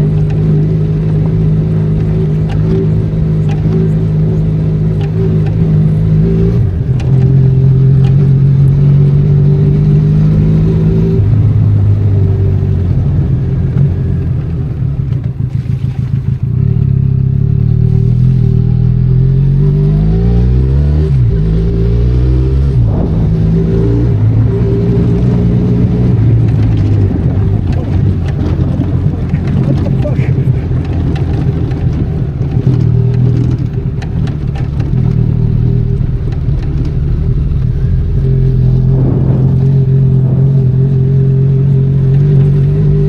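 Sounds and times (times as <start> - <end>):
motorcycle engine under load: 0.0 - 43.0.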